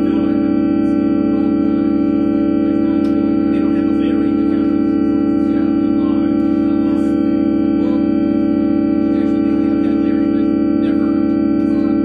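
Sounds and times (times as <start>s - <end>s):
organ-like drone of held notes: 0.0s - 12.0s.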